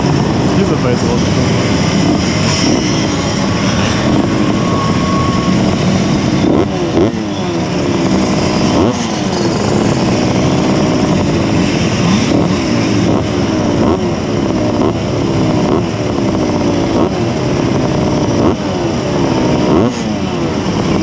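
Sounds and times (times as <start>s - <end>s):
two-stroke moped engine revving: 0.0s - 21.0s.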